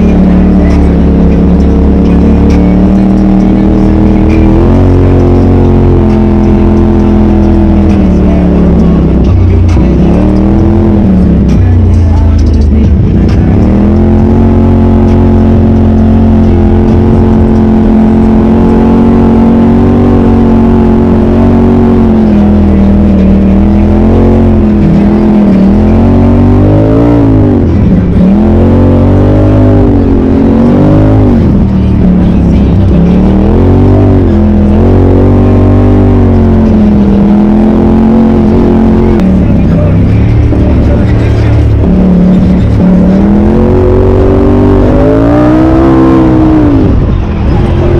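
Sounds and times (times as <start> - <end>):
utility vehicle engine revving: 0.0 - 47.9.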